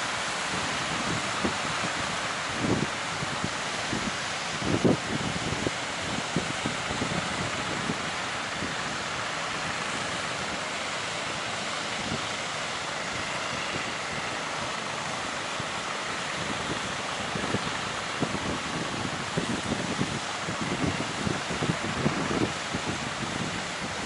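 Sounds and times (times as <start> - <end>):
wind buffeting microphone: 0.3 - 24.0.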